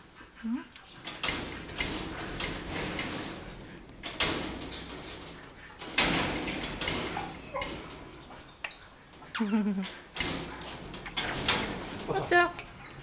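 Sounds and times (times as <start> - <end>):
metal gate rattling and clanking: 0.8 - 13.0.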